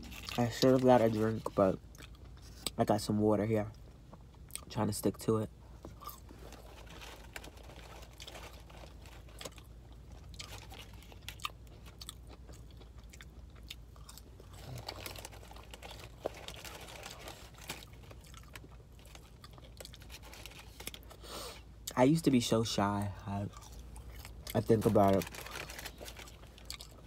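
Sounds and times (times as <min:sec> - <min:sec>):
person chewing food: 0:00.0 - 0:02.8, 0:05.8 - 0:22.0, 0:23.4 - 0:27.0.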